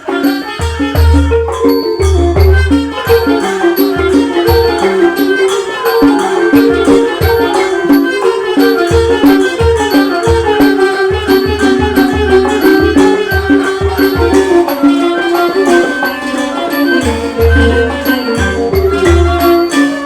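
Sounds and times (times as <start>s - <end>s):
high ticking beat: 0.0s - 20.0s
melodic instruments playing tune: 0.0s - 20.0s.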